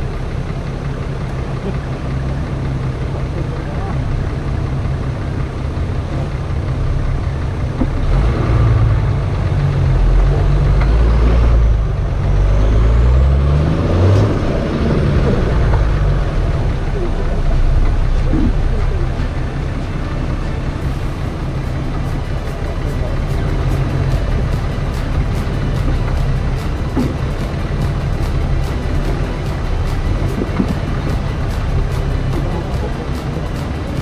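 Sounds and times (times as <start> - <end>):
engine pulling under load: 0.0 - 34.0.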